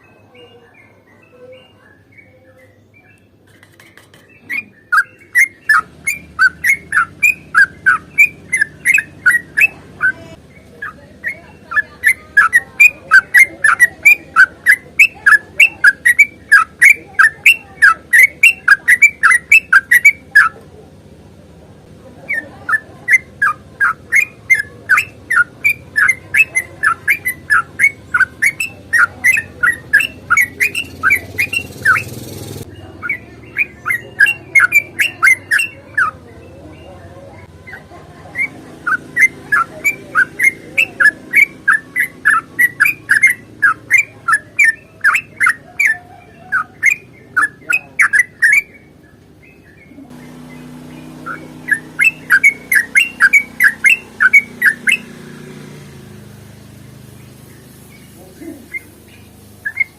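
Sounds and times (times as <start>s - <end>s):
bird singing whistled notes: 4.3s - 20.6s, 22.2s - 37.0s, 37.6s - 56.0s, 56.8s - 59.9s.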